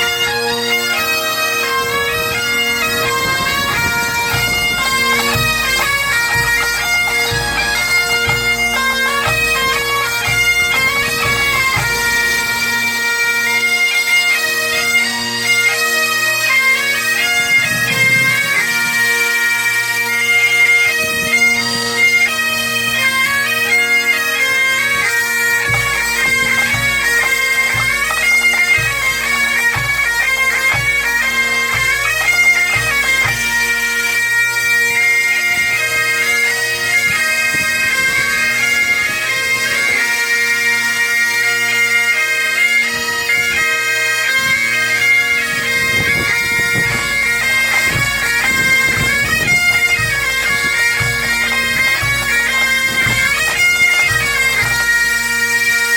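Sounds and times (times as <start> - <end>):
bagpipes playing a melody: 0.0 - 55.9.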